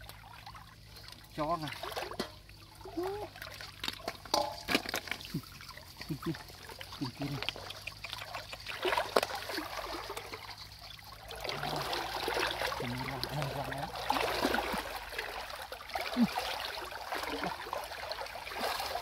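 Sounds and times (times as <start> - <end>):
small water splashes: 0.0 - 19.0
water trickling and sloshing: 0.0 - 19.0.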